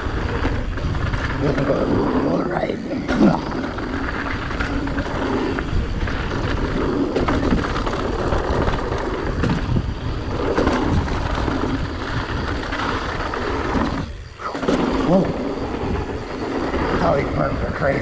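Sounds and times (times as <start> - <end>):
tyres rumbling over dirt and rock: 0.0 - 18.0
wind buffeting microphone: 0.0 - 18.0
bike knocks and rattles: 3.0 - 17.6.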